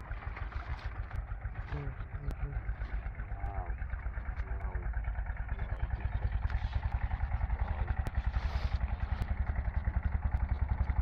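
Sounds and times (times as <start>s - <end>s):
small engine chugging: 0.0s - 11.0s
water and mud splashing: 0.0s - 11.0s.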